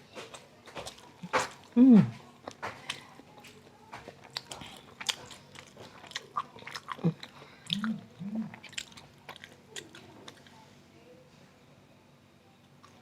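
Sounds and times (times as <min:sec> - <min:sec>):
close chewing with mouth clicks: 0:00.2 - 0:10.6.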